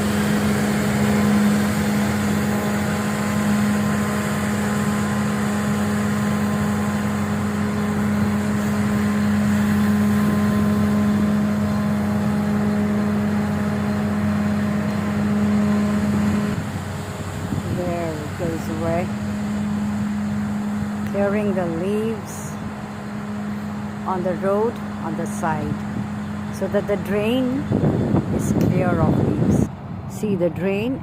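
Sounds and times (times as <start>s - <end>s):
truck engine and blower drone: 0.0s - 31.0s.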